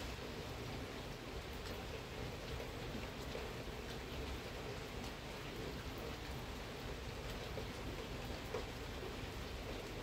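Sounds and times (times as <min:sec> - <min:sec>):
faint rain pattering: 0:00.0 - 0:10.0
light rain hissing: 0:00.0 - 0:10.0.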